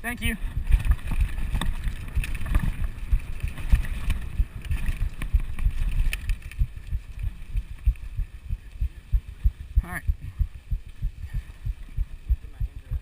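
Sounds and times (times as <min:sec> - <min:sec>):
bike rattling over rough trail: 0:00.0 - 0:13.0
wind noise on microphone: 0:00.0 - 0:13.0.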